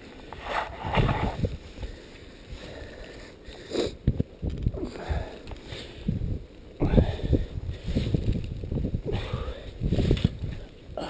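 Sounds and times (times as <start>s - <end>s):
deep snow crunching and rustling: 0.0s - 11.0s.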